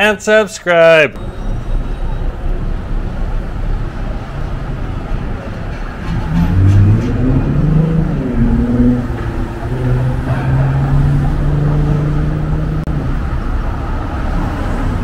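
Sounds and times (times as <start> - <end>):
street traffic hum: 0.0 - 15.0
vehicle engine pulling away: 1.2 - 15.0.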